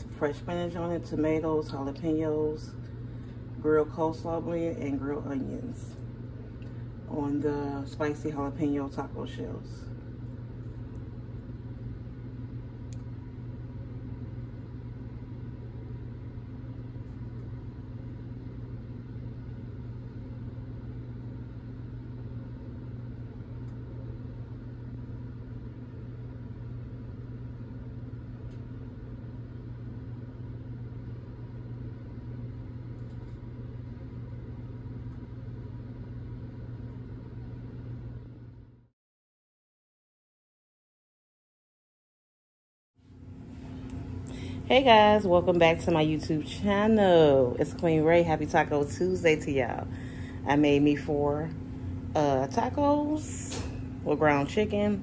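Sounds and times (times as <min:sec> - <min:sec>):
low mechanical hum: 0:00.0 - 0:38.9, 0:43.0 - 0:55.0.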